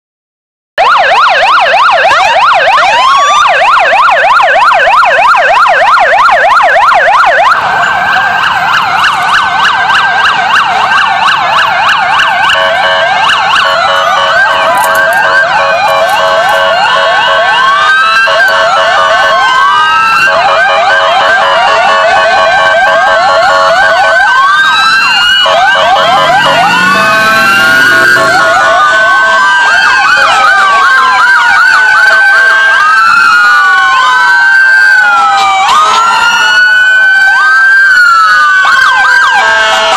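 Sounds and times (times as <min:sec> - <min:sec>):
emergency sirens yelping and wailing: 0:00.8 - 0:39.9.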